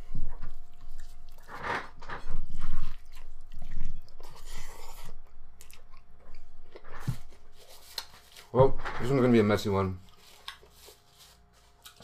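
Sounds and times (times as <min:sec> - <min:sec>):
biting and chewing food: 0:00.0 - 0:08.5, 0:10.0 - 0:12.0.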